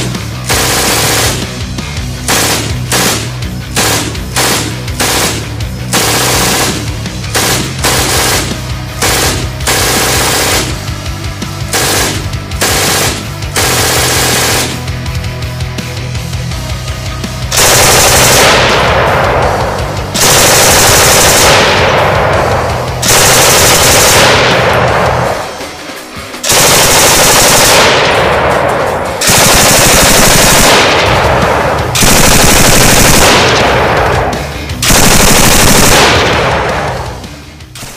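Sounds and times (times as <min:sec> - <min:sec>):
machine gun automatic bursts: 0:00.0 - 0:10.9, 0:11.7 - 0:14.9, 0:17.5 - 0:37.9.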